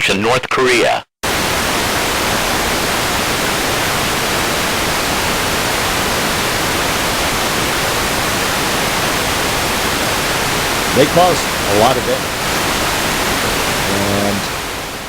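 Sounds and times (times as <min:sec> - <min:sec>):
loud static hiss: 0:01.2 - 0:15.0.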